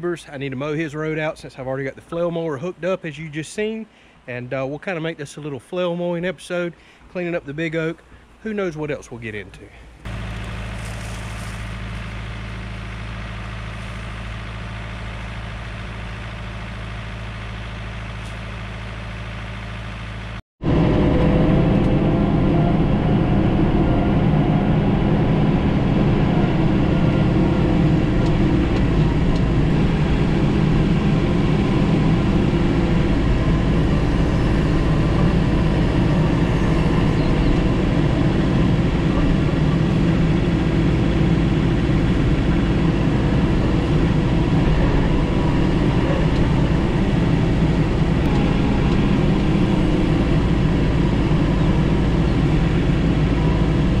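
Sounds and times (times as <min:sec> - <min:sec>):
tractor diesel engine running: 0:09.9 - 0:54.0.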